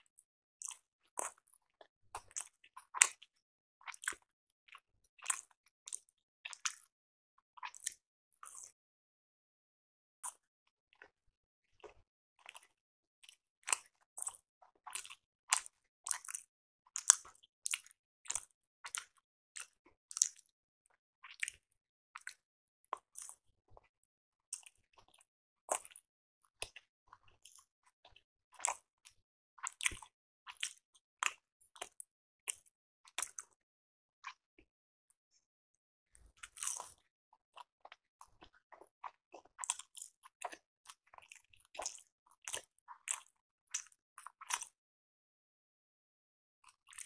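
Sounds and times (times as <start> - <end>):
person chewing soft food: 0.6 - 6.9, 7.6 - 8.8, 10.2 - 20.5, 21.2 - 23.9, 24.5 - 33.6, 34.2 - 34.4, 36.1 - 44.8, 46.6 - 47.0.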